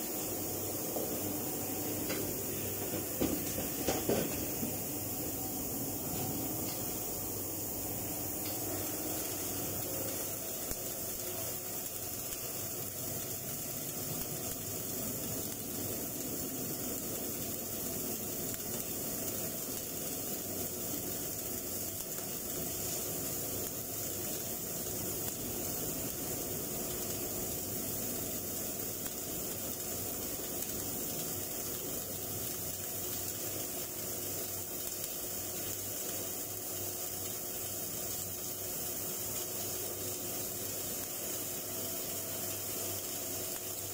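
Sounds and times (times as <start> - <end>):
welding arc hissing: 0.0 - 43.9.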